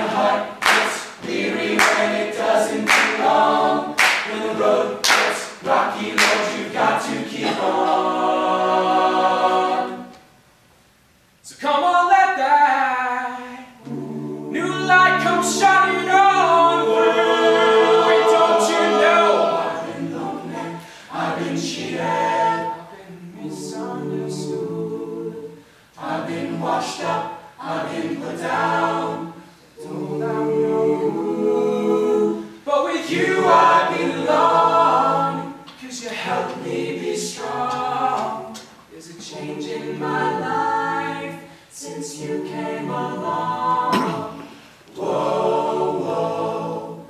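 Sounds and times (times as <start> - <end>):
a cappella group singing: 0.0 - 10.4, 11.5 - 47.0.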